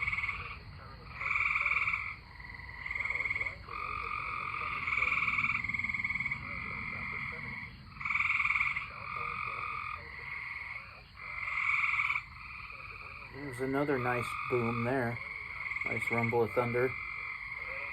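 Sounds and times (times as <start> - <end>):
tree frogs trilling: 0.0 - 17.9.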